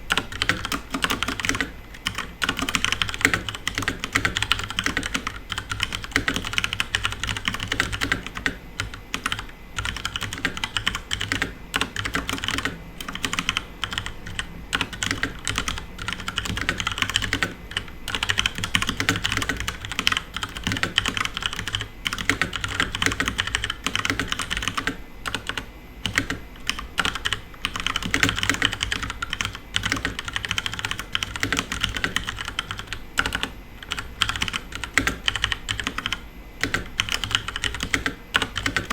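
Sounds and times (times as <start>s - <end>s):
mechanical keyboard typing: 0.1s - 38.9s.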